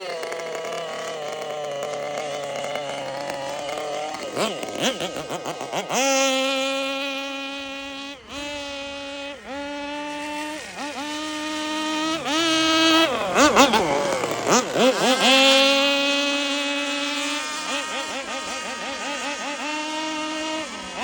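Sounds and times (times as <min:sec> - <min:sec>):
rc boats buzzing: 0:00.0 - 0:21.0.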